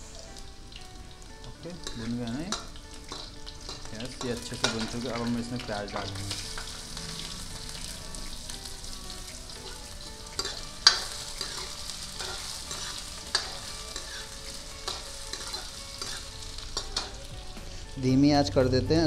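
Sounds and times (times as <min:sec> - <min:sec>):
onions sizzling in hot oil: 0:00.0 - 0:18.6.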